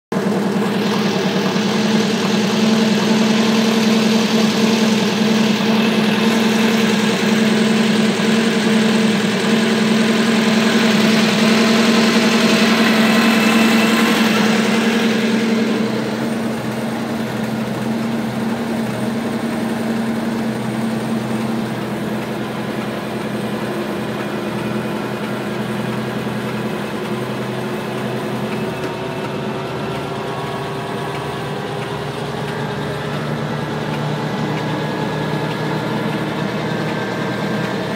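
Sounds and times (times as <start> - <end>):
helicopter piston engine running: 0.1 - 37.9
main rotor turning: 0.2 - 37.9.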